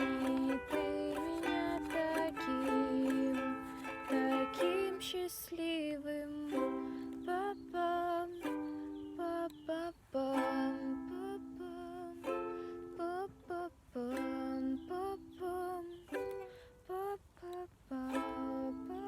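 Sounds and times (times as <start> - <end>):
strummed acoustic string instrument: 0.0 - 9.6, 10.2 - 17.1, 18.0 - 19.0.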